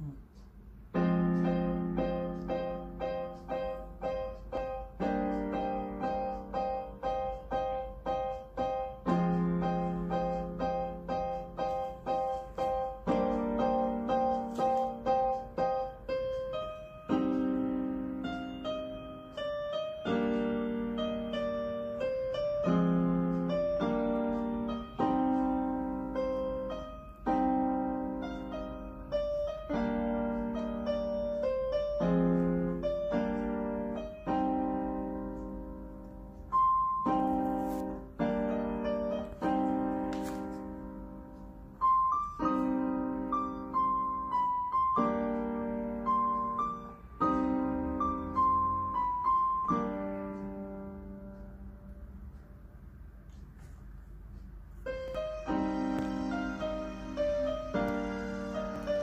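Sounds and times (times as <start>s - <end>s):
electronic keyboard piano sound: 0.0s - 59.0s.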